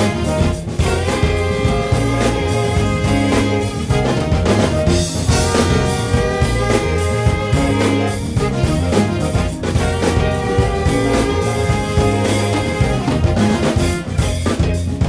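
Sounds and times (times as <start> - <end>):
drum kit and bass beat: 0.0 - 15.0
live soul band playing: 0.0 - 15.0.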